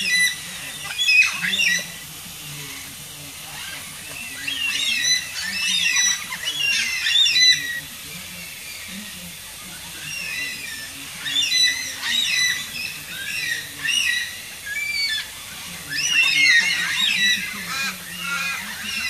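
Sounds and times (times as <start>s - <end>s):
cockatoos squawking: 0.0s - 19.0s.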